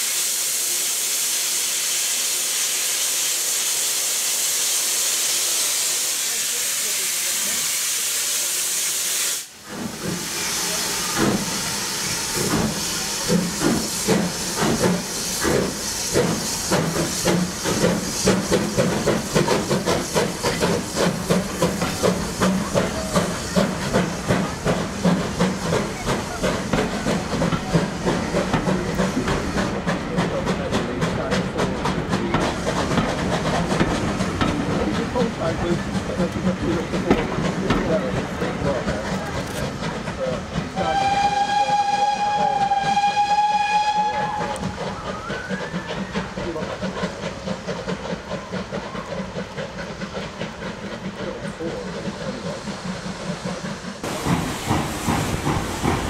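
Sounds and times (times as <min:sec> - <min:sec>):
loud steam hiss: 0:00.0 - 0:56.0
steam locomotive exhaust beats: 0:00.0 - 0:56.0.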